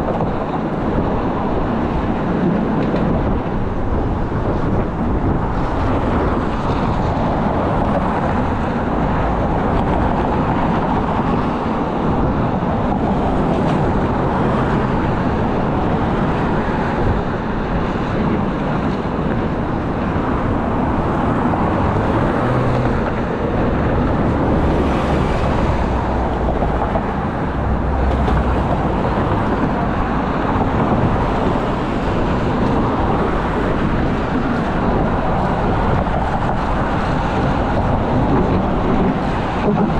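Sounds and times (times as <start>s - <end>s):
traffic rumble and hiss: 0.0s - 39.9s.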